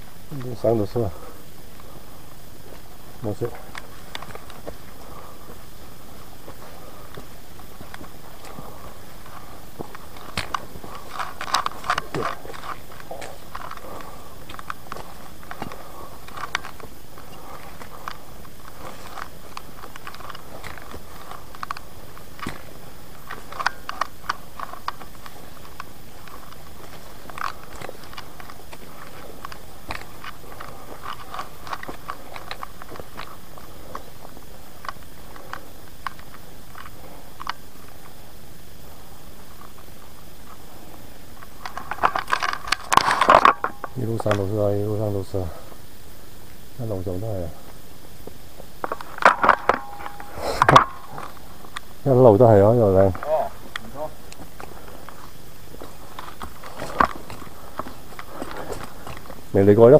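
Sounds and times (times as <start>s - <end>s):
footsteps on forest trail: 0.0s - 59.9s
steady background hiss: 0.0s - 59.9s
undergrowth crackling and snapping: 0.1s - 59.9s.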